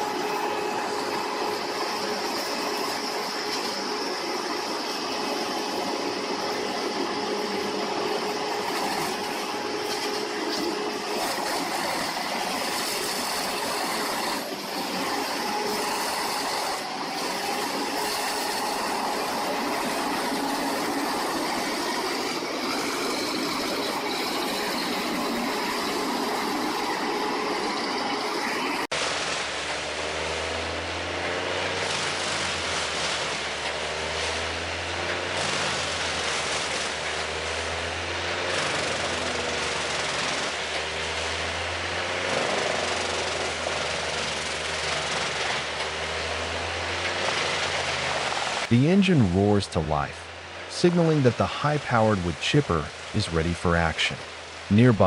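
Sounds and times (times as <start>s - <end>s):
machine engine running: 0.0s - 52.3s
deep heavy engine hum: 0.0s - 55.0s.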